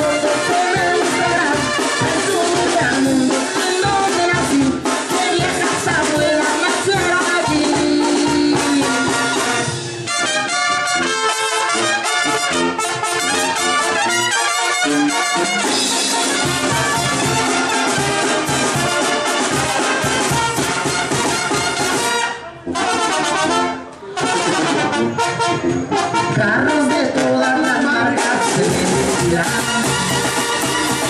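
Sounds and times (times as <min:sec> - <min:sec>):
brass band playing live: 0:00.0 - 0:31.0.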